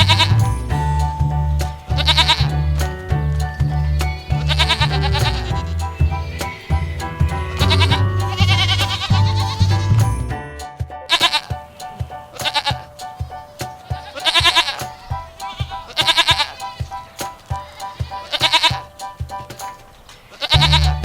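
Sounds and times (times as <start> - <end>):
background music with beat: 0.0 - 21.0.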